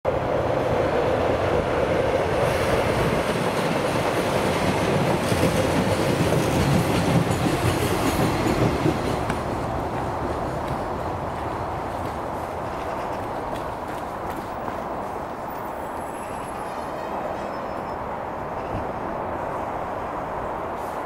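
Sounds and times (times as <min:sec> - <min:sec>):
train rumbling over bridge: 0:00.1 - 0:21.0.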